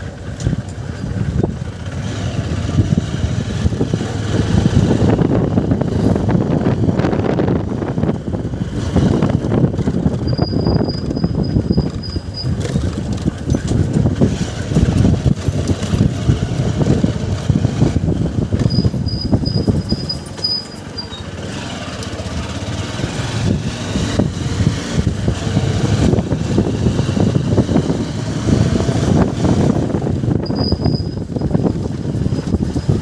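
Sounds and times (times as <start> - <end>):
motorcycle engine running: 0.0 - 33.0
wind buffeting microphone: 0.5 - 20.3, 22.2 - 33.0.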